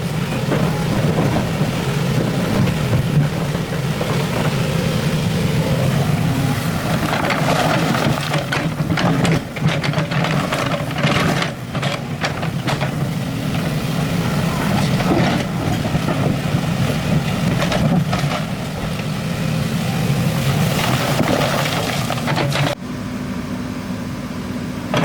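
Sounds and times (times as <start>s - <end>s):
bucket clanking and scraping: 0.0s - 22.8s
excavator diesel engine running: 0.0s - 25.0s.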